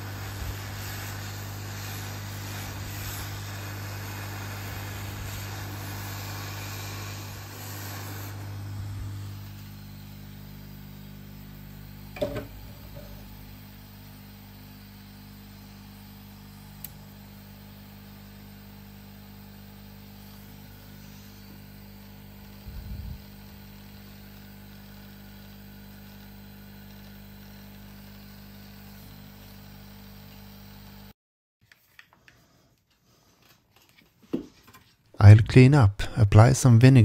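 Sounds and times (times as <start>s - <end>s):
hot-air blower running: 0.0s - 31.1s
mains hum: 0.0s - 31.1s.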